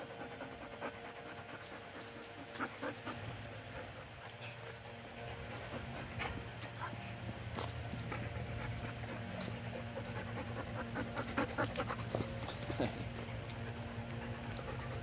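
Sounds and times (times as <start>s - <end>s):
dog panting: 0.0s - 15.0s
steady low hum: 0.0s - 15.0s.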